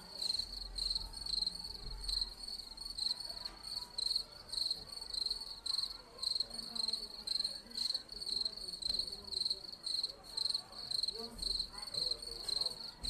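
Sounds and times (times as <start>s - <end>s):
crickets chirping through speaker: 0.0s - 13.0s.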